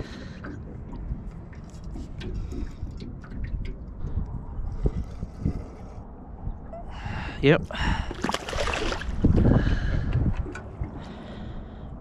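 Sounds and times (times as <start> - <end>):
water lapping against boat hull: 0.0 - 6.9, 7.8 - 11.8
wind rumbling on microphone: 0.0 - 12.0.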